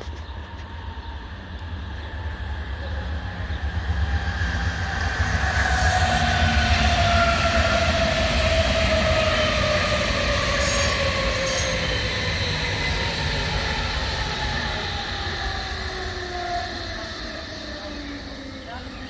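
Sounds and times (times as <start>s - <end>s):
electric train whine: 0.0s - 19.0s
train wheels on rails: 0.0s - 19.0s.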